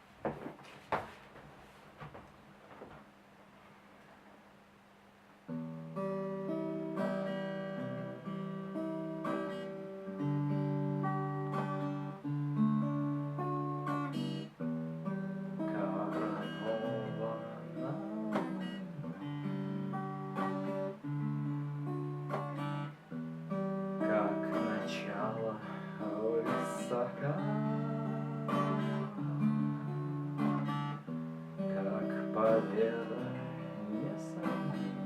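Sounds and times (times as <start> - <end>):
acoustic guitar chords: 5.5 - 35.0.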